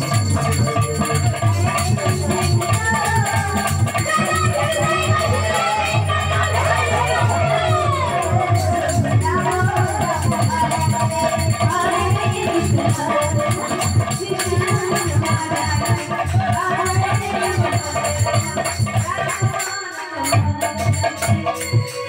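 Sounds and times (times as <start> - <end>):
hand drum beating: 0.0 - 19.7
jingling hand percussion: 0.0 - 22.0.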